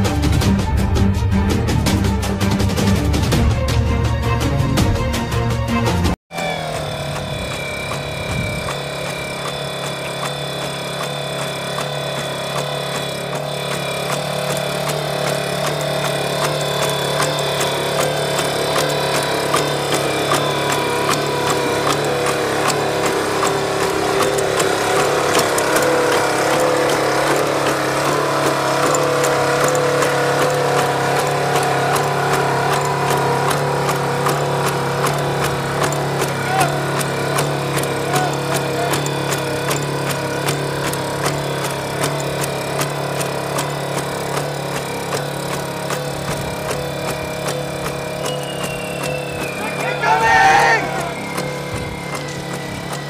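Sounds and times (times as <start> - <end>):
robot engine running: 6.3 - 53.0
regular ticks: 6.7 - 53.0.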